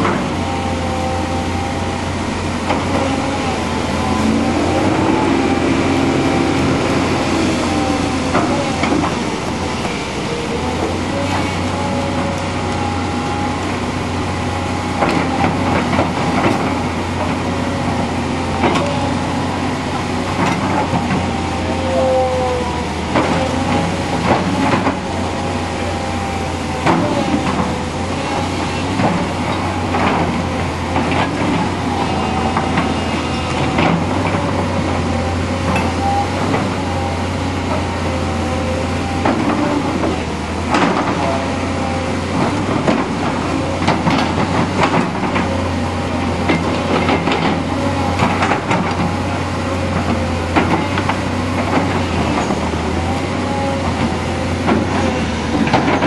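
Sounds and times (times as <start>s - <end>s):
excavator engine droning: 0.0s - 56.0s
hydraulic whine: 0.0s - 56.0s.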